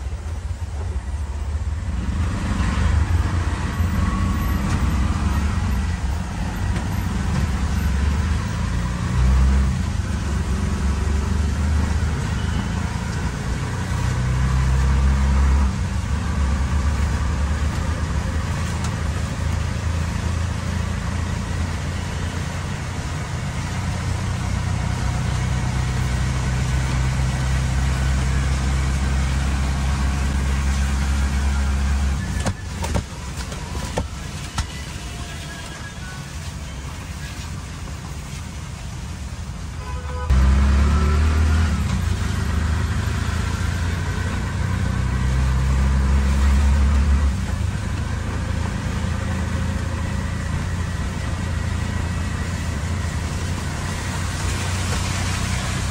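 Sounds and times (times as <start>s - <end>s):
auto rickshaw engine running: 0.0s - 55.9s
road and traffic noise: 0.0s - 55.9s.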